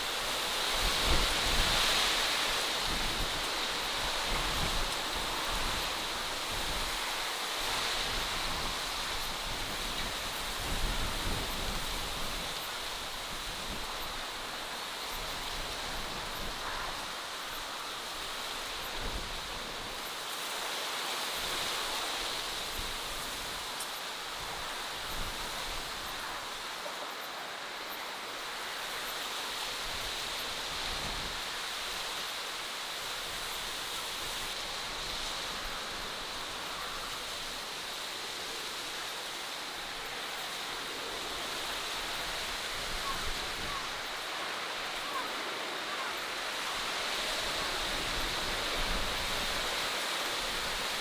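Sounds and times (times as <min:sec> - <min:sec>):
outdoor rushing hiss: 0:00.0 - 0:51.0.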